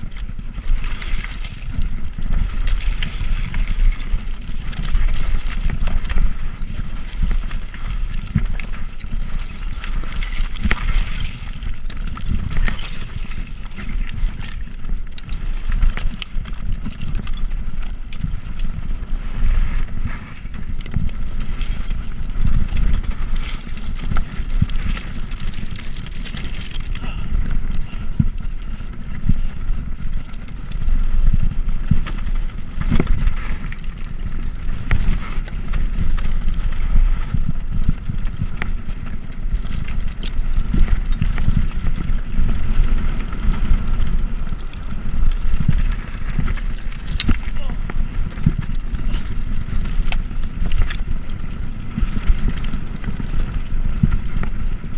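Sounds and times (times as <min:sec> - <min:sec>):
bicycle clicks and rattles: 0:00.0 - 0:54.9
wind buffeting microphone: 0:00.0 - 0:54.9.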